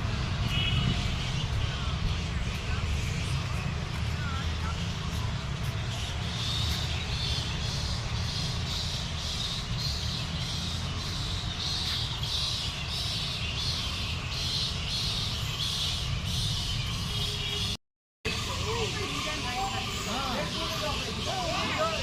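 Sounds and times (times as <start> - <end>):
birds calling harshly: 0.0 - 22.0.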